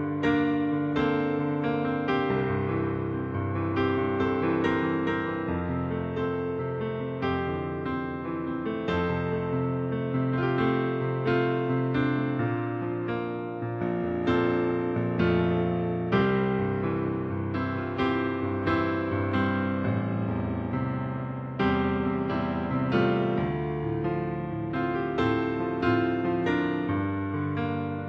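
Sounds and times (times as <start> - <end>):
slow solo piano: 0.0 - 28.0.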